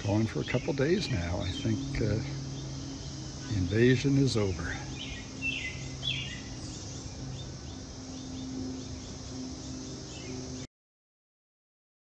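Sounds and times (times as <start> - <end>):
birds chirping: 0.0 - 10.7
steady low hum: 0.0 - 10.7.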